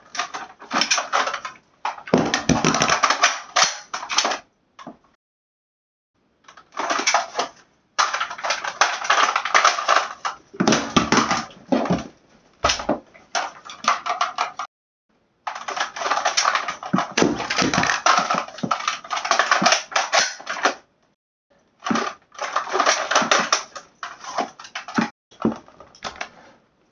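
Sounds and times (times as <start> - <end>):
airsoft rifle clicking and rattling: 0.0 - 4.5, 6.4 - 12.0, 12.6 - 14.7, 15.5 - 20.9, 21.8 - 26.3.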